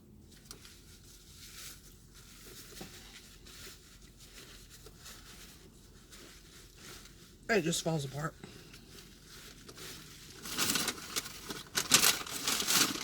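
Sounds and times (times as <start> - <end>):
wrapper rustling: 0.3 - 13.0.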